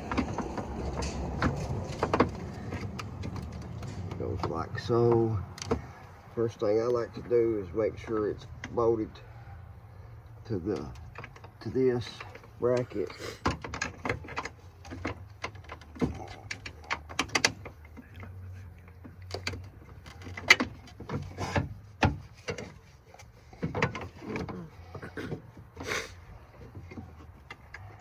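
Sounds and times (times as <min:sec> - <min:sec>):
metal brace and bolts clinking: 0:00.0 - 0:09.2, 0:10.4 - 0:25.7.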